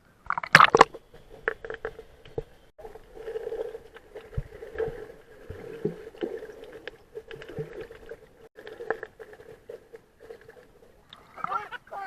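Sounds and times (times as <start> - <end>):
muffled water sloshing and knocking: 0.4 - 11.1.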